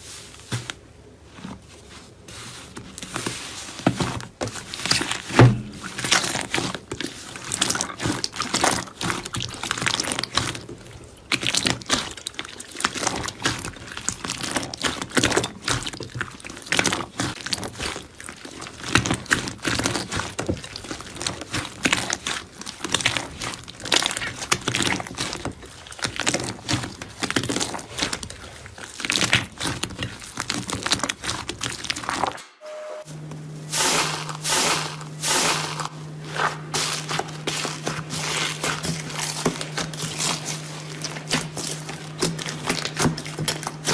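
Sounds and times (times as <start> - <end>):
slime squeezed wet crackles: 4.6 - 32.4, 36.5 - 43.9.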